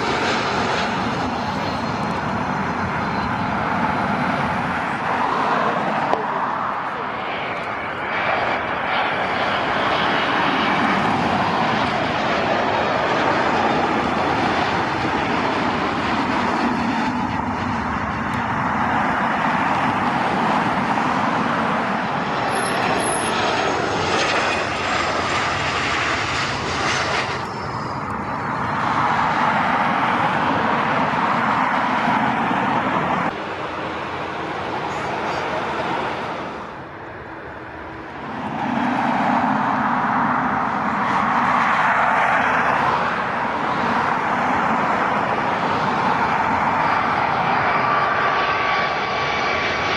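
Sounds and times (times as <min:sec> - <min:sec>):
jet airliner engines: 0:00.0 - 0:49.9.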